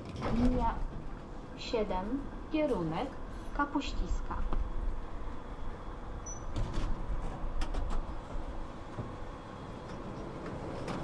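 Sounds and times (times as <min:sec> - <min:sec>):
tram rumble: 0:00.0 - 0:11.0.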